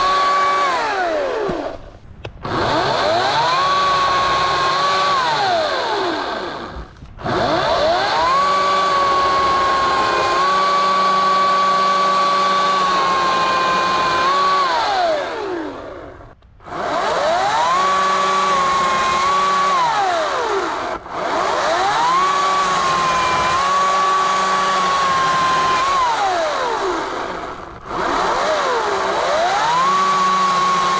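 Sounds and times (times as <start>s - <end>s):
electric chainsaw cutting branch: 0.0s - 30.9s.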